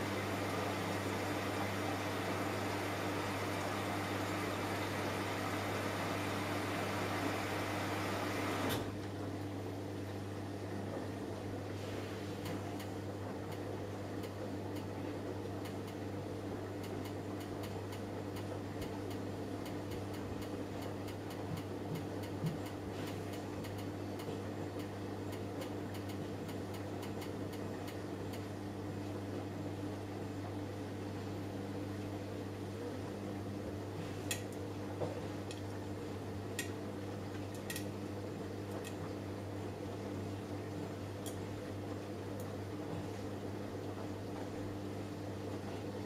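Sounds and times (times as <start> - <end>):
washing machine motor hum: 0.0 - 46.0.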